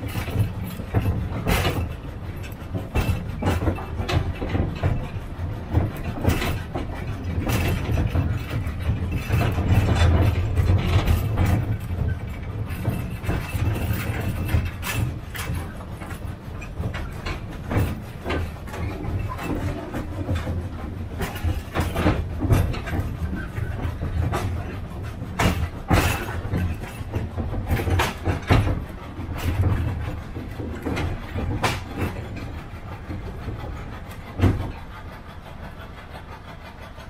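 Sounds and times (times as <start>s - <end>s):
locomotive engine drone: 0.0s - 37.0s
train wagons clattering on track: 0.0s - 37.0s.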